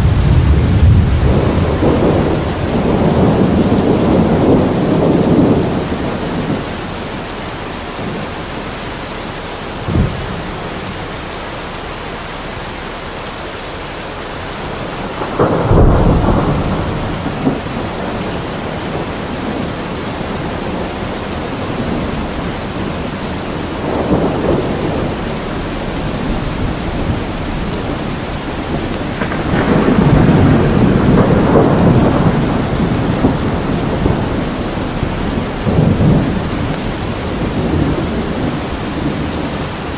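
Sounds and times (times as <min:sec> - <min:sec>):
rolling thunder: 0:00.0 - 0:11.3, 0:14.4 - 0:39.9
heavy rain: 0:00.0 - 0:39.9.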